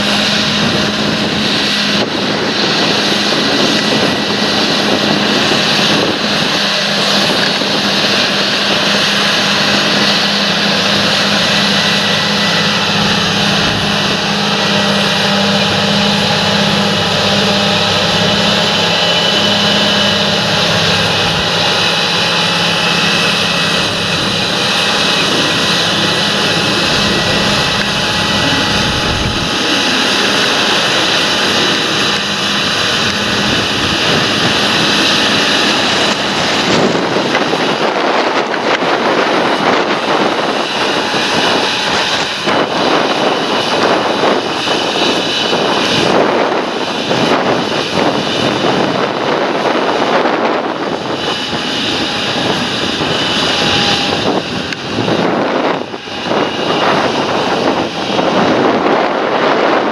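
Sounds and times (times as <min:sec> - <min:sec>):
tractor engine running: 0:00.0 - 0:59.0
high whine: 0:00.0 - 0:59.9.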